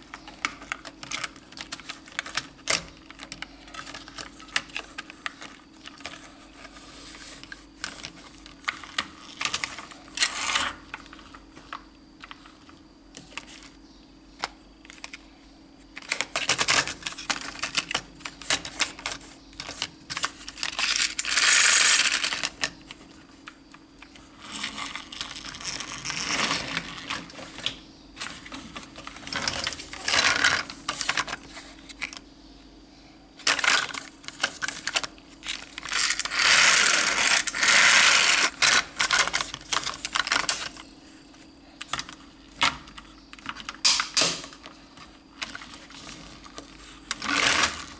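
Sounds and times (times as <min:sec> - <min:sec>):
faint steady hum: 0:00.0 - 0:47.9
plastic toys clicking and clattering: 0:00.2 - 0:06.8, 0:07.8 - 0:12.5, 0:14.4 - 0:15.2, 0:16.0 - 0:23.0, 0:24.0 - 0:32.2, 0:33.4 - 0:40.8, 0:41.8 - 0:47.9.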